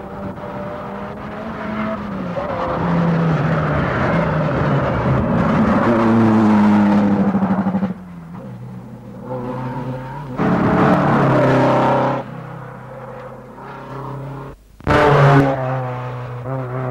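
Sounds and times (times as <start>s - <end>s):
rally car engine passing: 0.0s - 16.9s.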